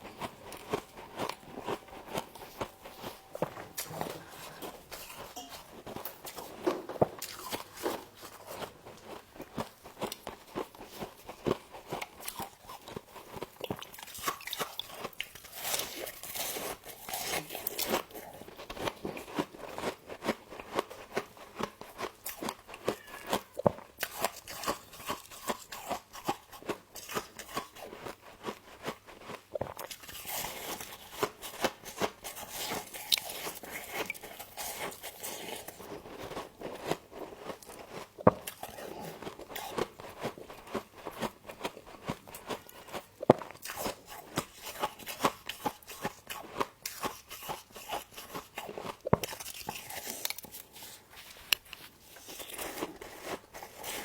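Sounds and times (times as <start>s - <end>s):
frost being chewed: 0.0s - 54.0s.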